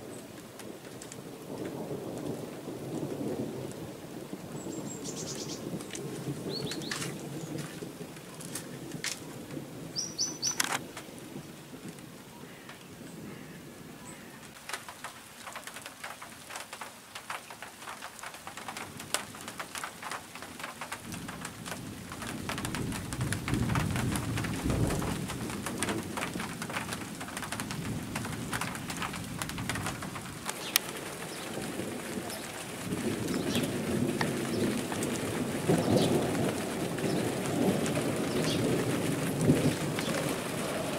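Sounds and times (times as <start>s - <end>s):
raindrops ticking: 0.0s - 13.2s, 14.2s - 40.9s
low rumble of thunder: 0.0s - 14.6s, 18.6s - 40.9s.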